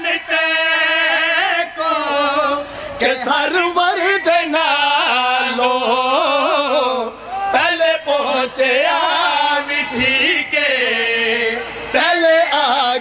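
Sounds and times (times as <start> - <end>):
men singing together: 0.0 - 13.0.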